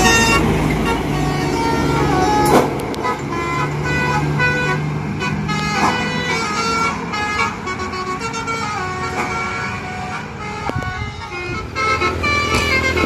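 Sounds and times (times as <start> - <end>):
bus engine humming: 0.0 - 13.0
bus horn playing a tune: 0.0 - 13.0.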